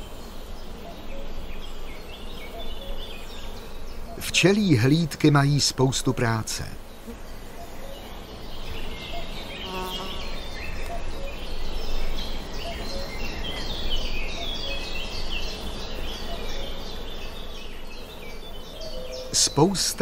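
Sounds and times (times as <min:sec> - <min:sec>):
birds chirping: 0:00.0 - 0:20.0
honeybees buzzing: 0:00.0 - 0:20.0.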